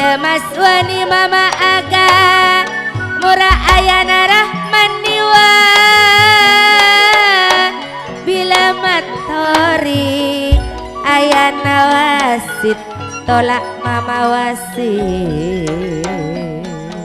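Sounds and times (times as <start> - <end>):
gamelan accompaniment: 0.0 - 17.0.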